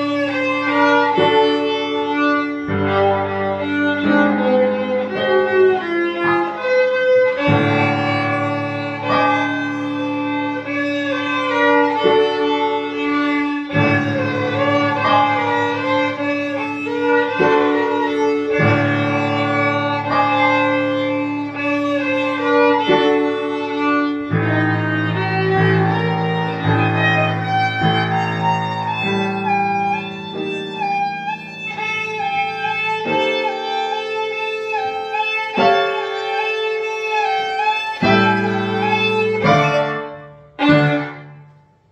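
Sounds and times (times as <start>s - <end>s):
bowed violin melody: 0.0s - 41.9s.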